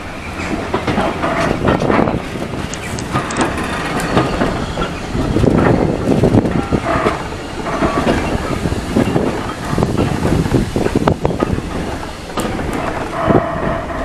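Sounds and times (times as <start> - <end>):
carriage wheels rumbling and clattering: 0.0 - 14.0.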